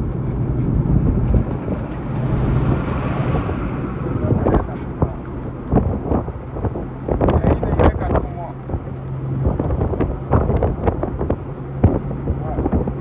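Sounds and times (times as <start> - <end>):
truck engine rumble: 0.0 - 13.0
wind buffeting microphone: 0.0 - 13.0.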